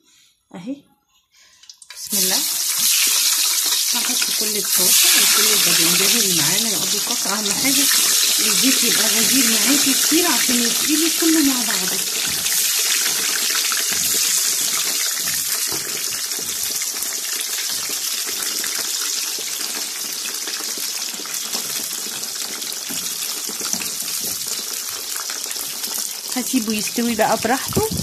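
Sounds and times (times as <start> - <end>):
eggplants deep-frying in oil: 1.4 - 28.0.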